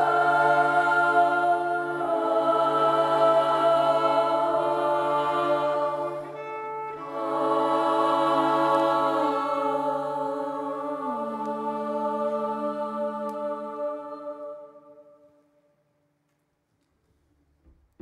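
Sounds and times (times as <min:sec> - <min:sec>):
choir holding wordless chords: 0:00.0 - 0:15.5.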